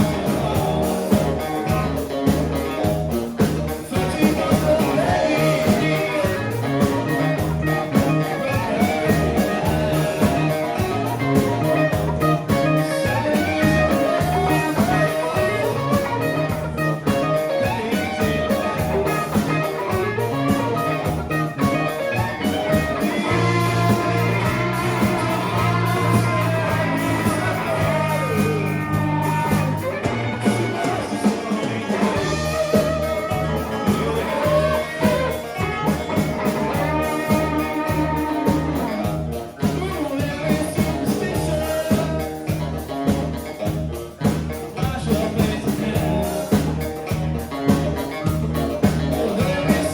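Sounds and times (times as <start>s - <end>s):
electric guitar: 0.0s - 49.9s
live rock band: 0.0s - 49.9s
steady drum beat: 0.0s - 49.9s.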